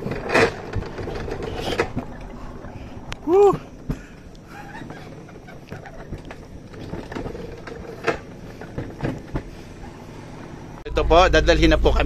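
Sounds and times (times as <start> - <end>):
sled wheels rumbling on rail: 0.0 - 12.0.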